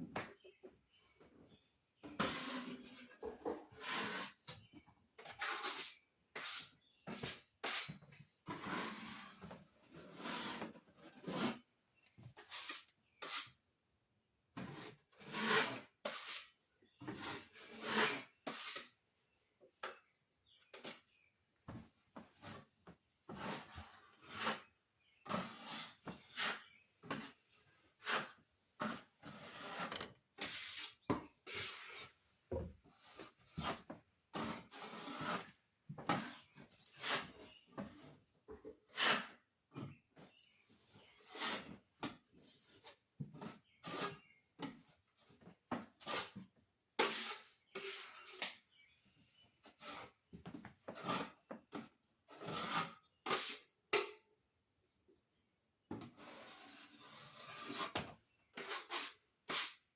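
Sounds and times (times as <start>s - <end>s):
scraping and rubbing on a wall: 1.5s - 13.6s, 14.6s - 53.8s, 56.0s - 59.9s.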